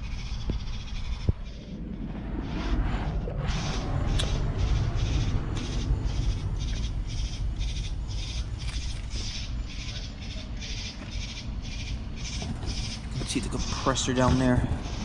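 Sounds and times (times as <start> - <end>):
insects calling in pulses: 0.0 - 15.0
low rumble: 0.0 - 15.0.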